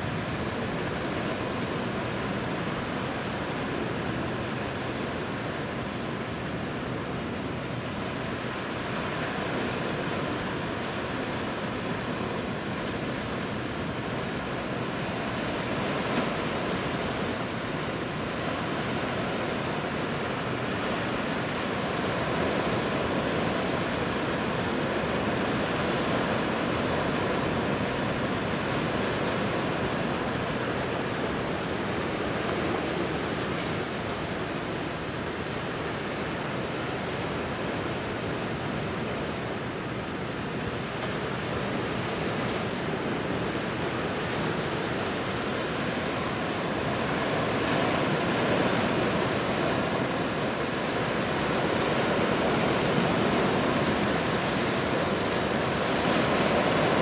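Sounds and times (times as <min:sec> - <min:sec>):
sea waves washing: 0:00.0 - 0:57.0.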